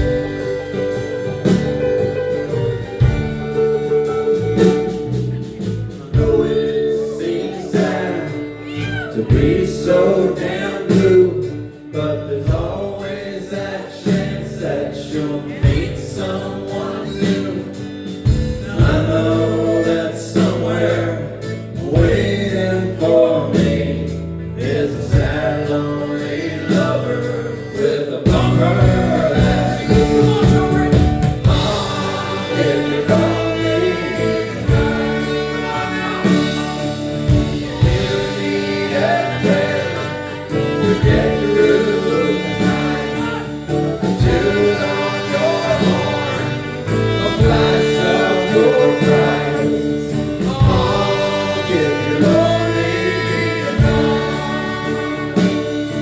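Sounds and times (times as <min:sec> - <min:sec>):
person singing: 0:00.0 - 0:17.9, 0:18.6 - 0:56.0
live band playing: 0:00.0 - 0:56.0.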